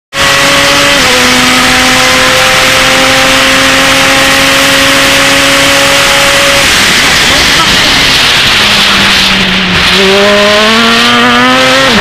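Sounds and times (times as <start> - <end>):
loud rushing noise: 0.2 - 12.0
race car engine running: 0.2 - 12.0.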